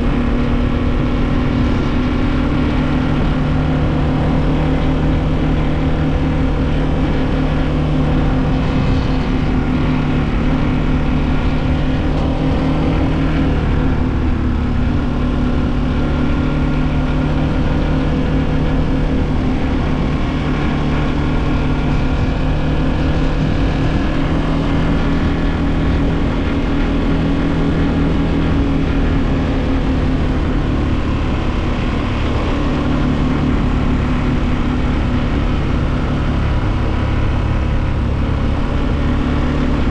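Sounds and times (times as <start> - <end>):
motorcycle engine running: 0.0 - 39.9
rush of wind: 0.0 - 39.9.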